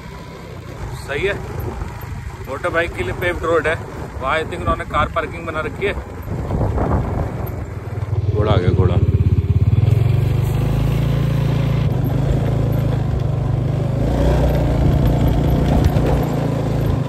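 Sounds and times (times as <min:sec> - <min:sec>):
scooter engine droning: 0:00.0 - 0:17.0.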